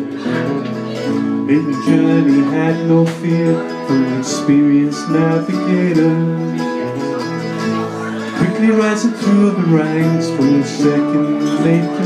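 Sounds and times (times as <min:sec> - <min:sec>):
mandolin picking: 0:00.0 - 0:12.0.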